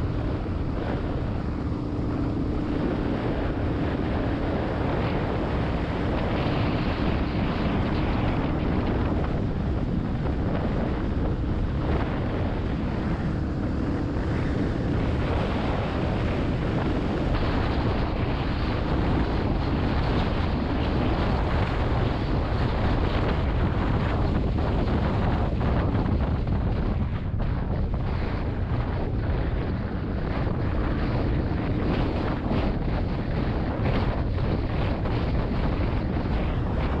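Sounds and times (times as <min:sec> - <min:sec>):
low engine hum: 0:00.0 - 0:37.0
wind buffeting microphone: 0:00.0 - 0:37.0.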